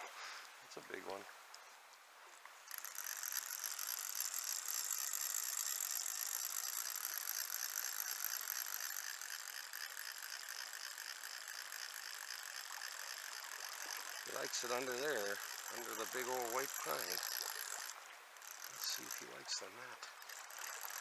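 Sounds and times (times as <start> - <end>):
fishing reel ratcheting: 2.6 - 21.0.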